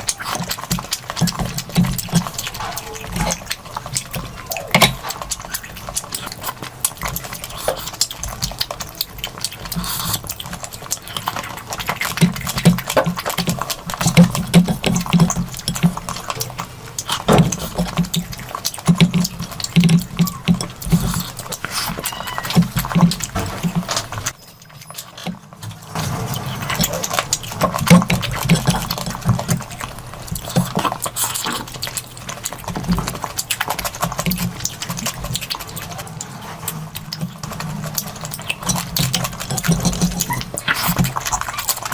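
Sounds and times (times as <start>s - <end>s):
lip smacks and mouth clicks: 0.0s - 25.6s, 26.4s - 41.9s
wet chewing: 0.0s - 41.9s.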